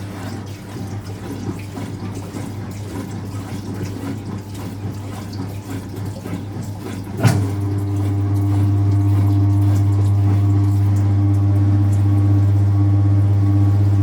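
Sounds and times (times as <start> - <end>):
moving water: 0.0 - 14.0
washing machine electric hum: 0.0 - 14.0.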